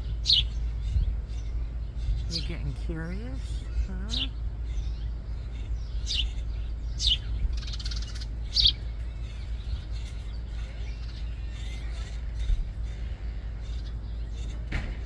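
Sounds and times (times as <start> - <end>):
sparrows chirping: 0.0 - 15.0
steady low rumble: 0.0 - 15.0.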